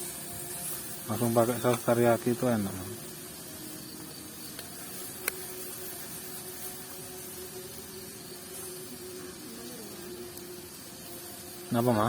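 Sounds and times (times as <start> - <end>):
faint steady hum: 0.0 - 12.0
food hissing on a stove: 0.0 - 12.0.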